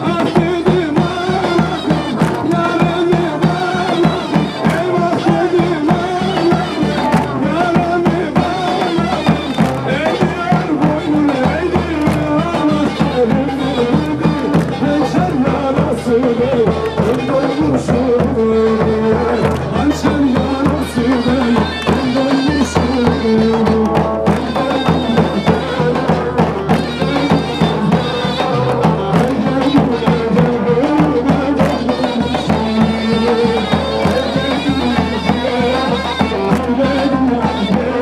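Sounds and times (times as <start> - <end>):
fast drum beat: 0.0 - 38.0
folk melody instrument: 0.0 - 38.0.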